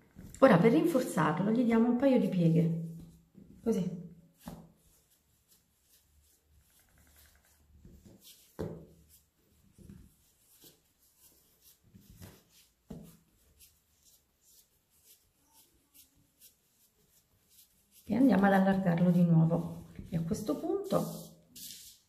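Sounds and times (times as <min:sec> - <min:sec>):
hands kneading dough: 0:00.0 - 0:22.0
pats on dough: 0:02.8 - 0:22.0.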